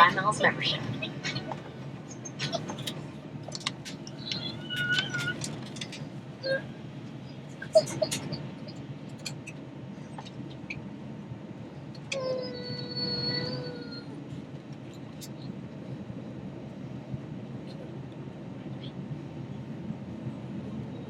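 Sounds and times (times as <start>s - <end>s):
airliner cabin hum: 0.0s - 21.0s.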